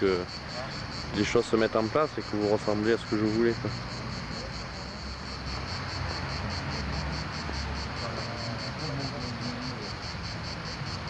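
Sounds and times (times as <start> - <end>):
cicadas singing: 0.0 - 11.0.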